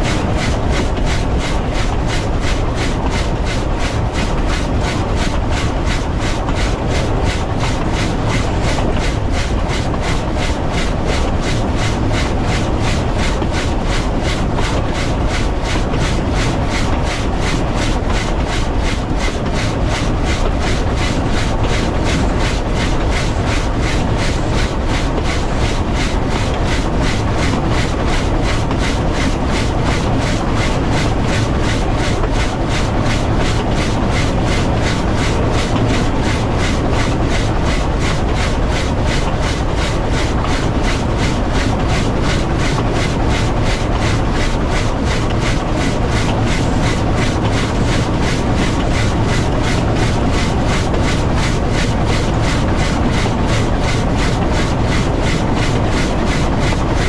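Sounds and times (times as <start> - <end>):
steam locomotive exhaust beats: 0.0 - 57.0
wheels rumbling on track: 0.0 - 57.0.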